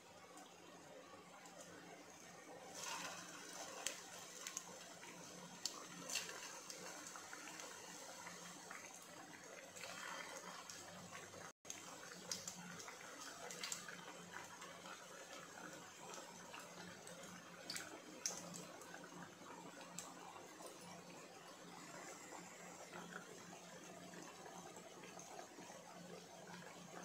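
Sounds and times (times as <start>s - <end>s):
hot oil sizzling: 0.2s - 27.0s.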